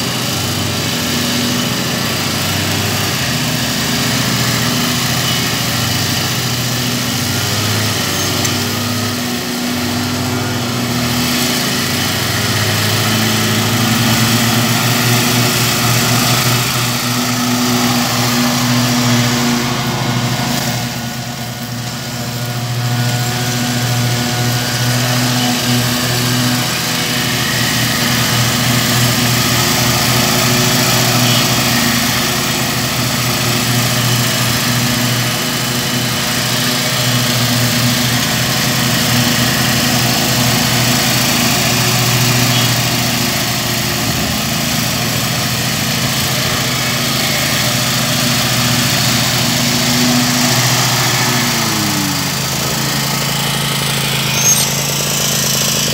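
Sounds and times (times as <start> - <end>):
lawn mower engine running: 0.0 - 55.9.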